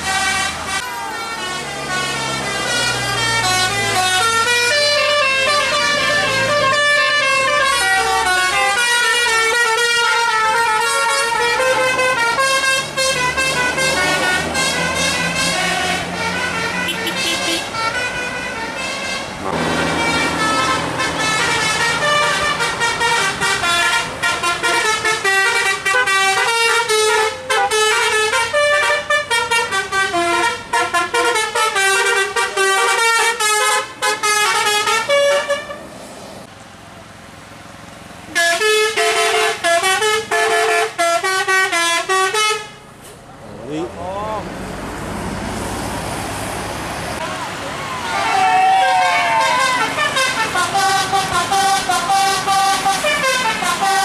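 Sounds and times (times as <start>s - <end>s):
musical air horn: 0.0s - 35.9s, 38.3s - 42.8s, 48.6s - 54.0s
bus engine running: 0.0s - 54.0s.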